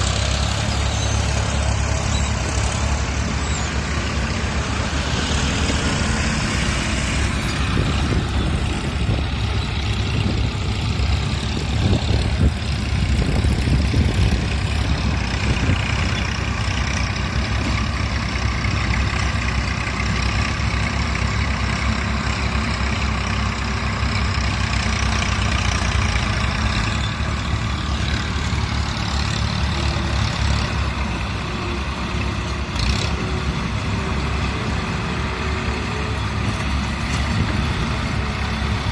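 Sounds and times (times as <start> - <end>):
heavy engine rumbling: 0.0 - 38.9.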